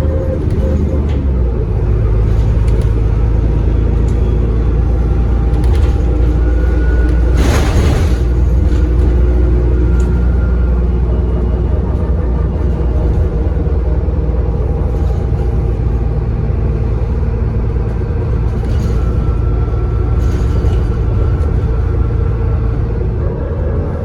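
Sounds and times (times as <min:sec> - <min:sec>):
bus diesel engine drone: 0:00.0 - 0:24.0
road rumble: 0:00.0 - 0:24.0.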